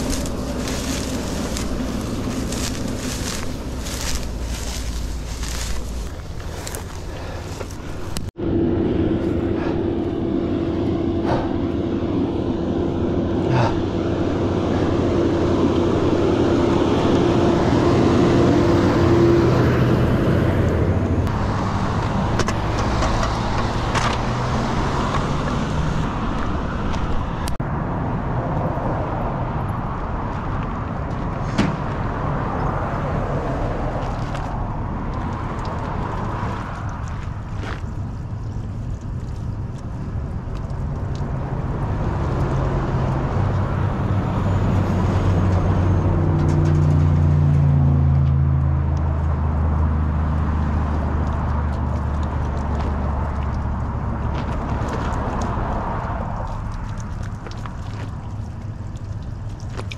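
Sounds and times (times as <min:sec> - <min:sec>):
engine hum: 0:00.0 - 0:59.9
road noise: 0:00.0 - 0:59.9.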